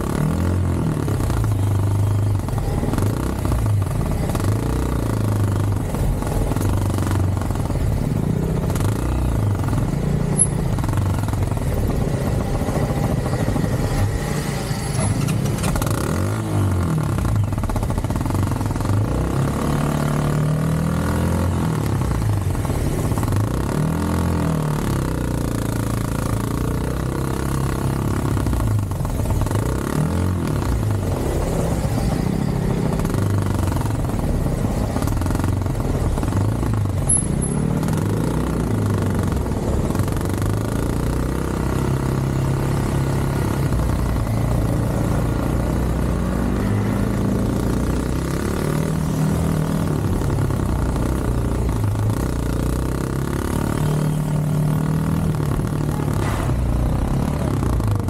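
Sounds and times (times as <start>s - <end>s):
motorcycle engine in traffic: 0.0s - 58.0s
surrounding traffic: 0.0s - 58.0s.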